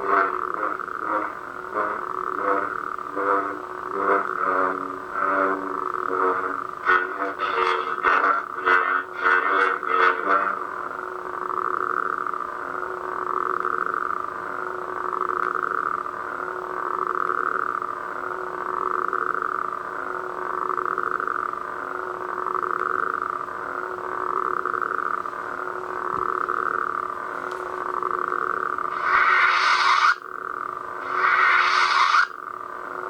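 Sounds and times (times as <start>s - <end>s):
lightsaber humming: 0.0s - 33.0s.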